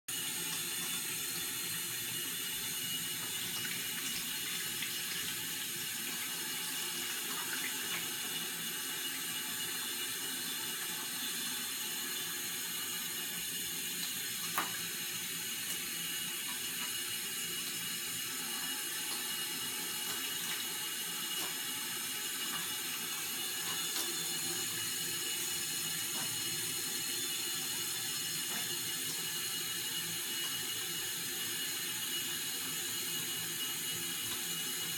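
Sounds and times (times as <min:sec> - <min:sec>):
water running from a tap: 0:00.1 - 0:34.9.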